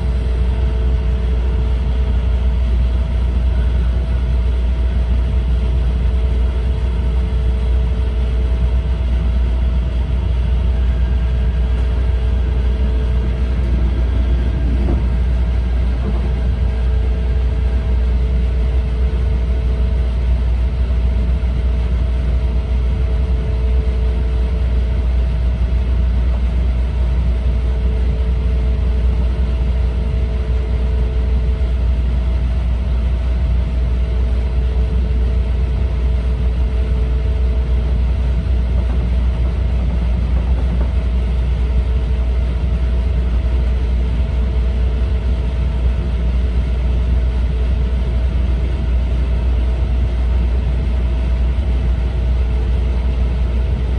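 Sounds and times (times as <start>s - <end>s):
faint steady hum: 0.0s - 53.9s
low hum: 0.0s - 53.9s
train rumble inside cabin: 0.0s - 53.9s.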